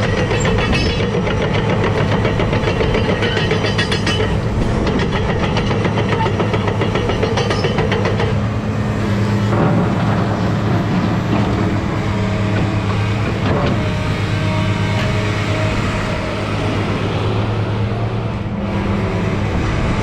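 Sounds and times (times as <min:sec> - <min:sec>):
excavator diesel engine running: 0:00.0 - 0:20.0
metallic clatter of steel tracks: 0:00.0 - 0:20.0.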